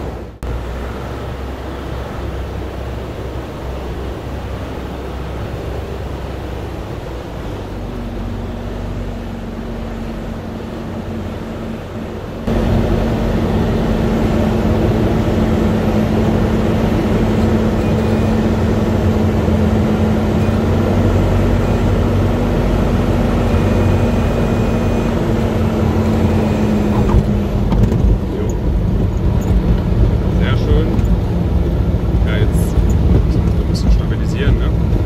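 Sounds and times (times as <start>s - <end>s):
aircraft engine and propeller droning: 0.0s - 35.0s.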